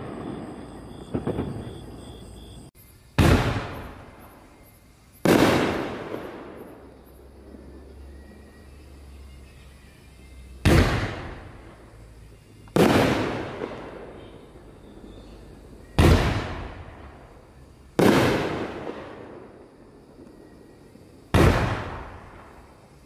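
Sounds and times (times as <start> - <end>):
fireworks bangs: 0.0 - 8.0, 10.6 - 22.9.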